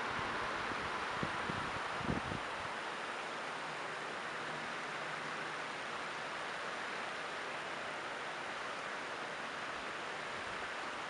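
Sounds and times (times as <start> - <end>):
creek water rushing over rocks: 0.0 - 11.0.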